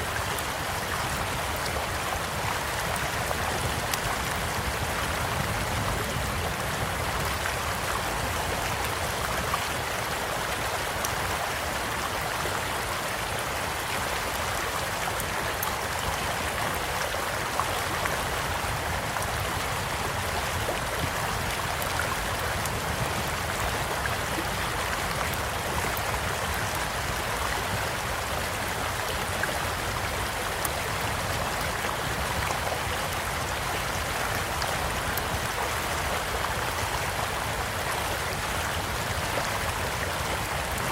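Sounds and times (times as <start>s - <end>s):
small stream flowing: 0.0s - 40.9s.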